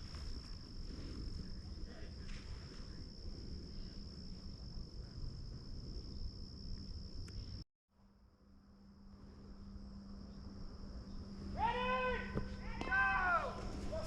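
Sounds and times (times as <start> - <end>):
crickets trilling: 0.0 - 7.6, 8.5 - 14.0.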